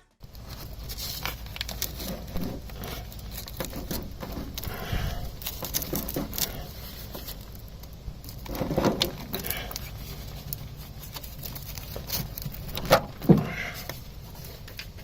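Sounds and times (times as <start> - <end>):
rustling: 0.0 - 15.0
steady low hum: 0.0 - 15.0.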